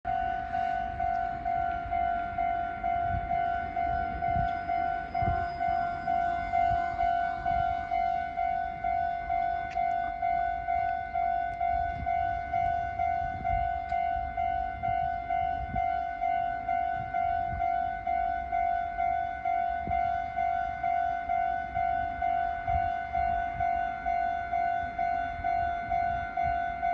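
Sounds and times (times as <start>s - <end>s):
level-crossing bell dinging: 0.1s - 26.9s.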